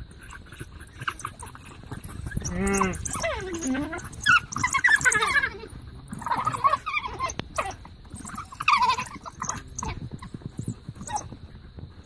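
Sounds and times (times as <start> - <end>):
wild dogs whining and twittering: 0.0 - 11.6.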